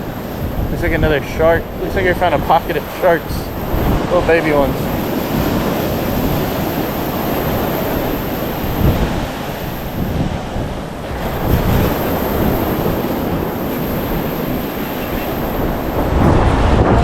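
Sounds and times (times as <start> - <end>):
ocean surf washing ashore: 0.0 - 17.0
wind buffeting microphone: 0.0 - 17.0.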